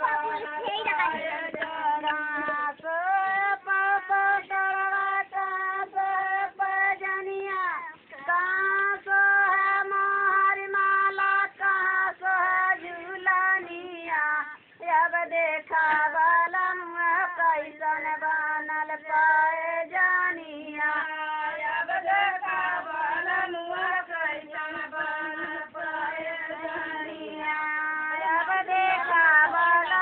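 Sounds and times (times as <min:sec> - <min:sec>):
woman singing unaccompanied: 0:00.0 - 0:30.0.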